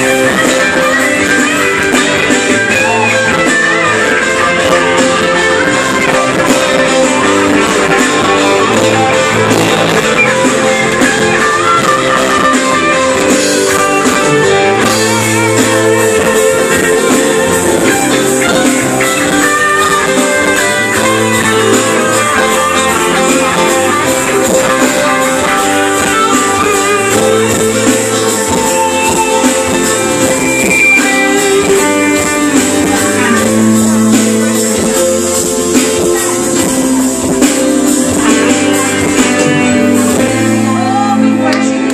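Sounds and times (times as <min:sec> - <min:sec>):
live band playing loudly: 0:00.0 - 0:41.9.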